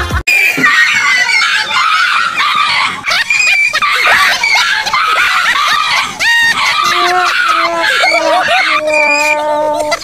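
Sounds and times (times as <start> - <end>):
dog yelping and barking: 0.6 - 10.0.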